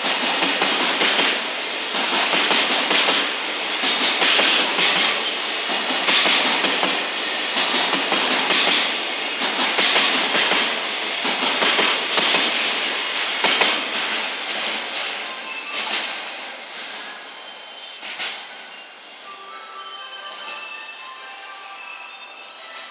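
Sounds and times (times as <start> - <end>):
freight train rolling past: 0.0 - 22.9.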